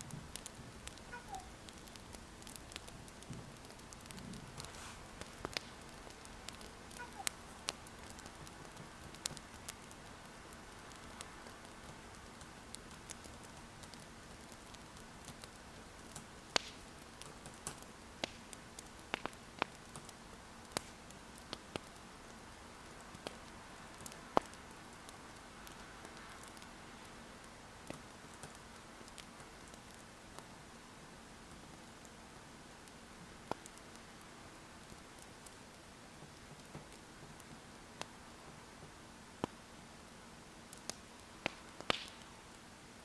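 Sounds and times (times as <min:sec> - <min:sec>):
soft steady hiss: 0:00.0 - 0:43.0
wood fire crackling: 0:00.0 - 0:43.0.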